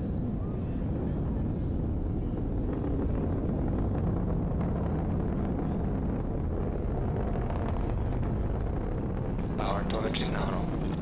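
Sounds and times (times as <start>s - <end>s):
rocket engines rumbling: 0.0s - 11.0s.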